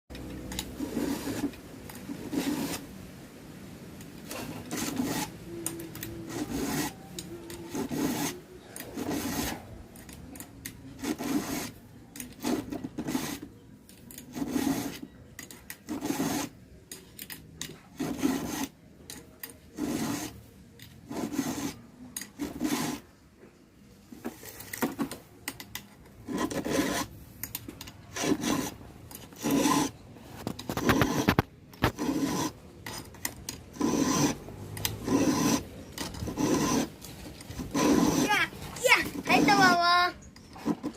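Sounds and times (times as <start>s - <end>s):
file rasping on chainsaw chain: 0.5s - 1.6s, 4.3s - 23.1s, 26.2s - 30.0s, 30.6s - 39.9s.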